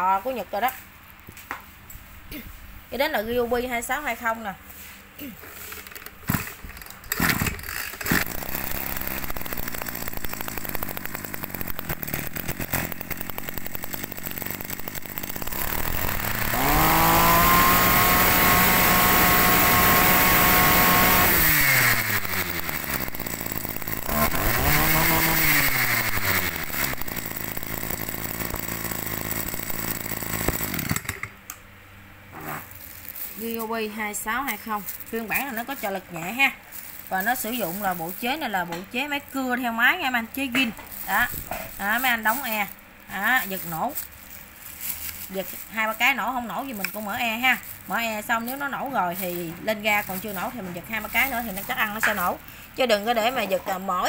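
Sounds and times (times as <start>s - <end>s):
brush cutter engine revving: 5.5s - 31.3s, 32.4s - 54.0s.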